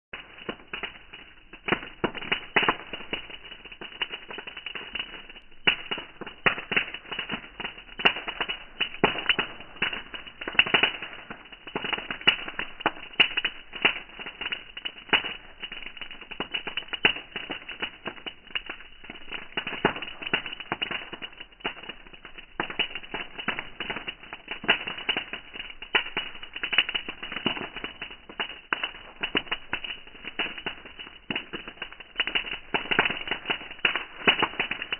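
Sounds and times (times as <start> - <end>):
bonfire crackling: 0.1 - 34.9.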